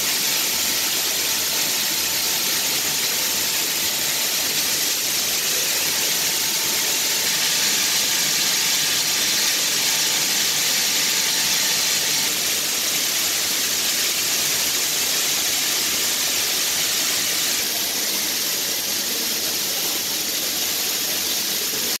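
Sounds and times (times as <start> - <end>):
faint steady whine: 0.0 - 20.6
loud hiss of equipment: 0.0 - 22.0.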